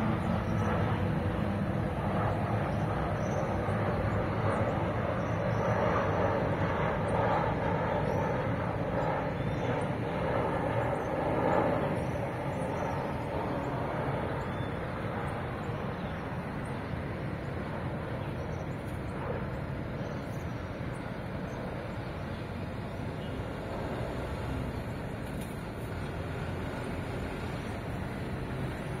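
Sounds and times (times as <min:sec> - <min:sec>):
jet engines roaring overhead: 0:00.0 - 0:29.0.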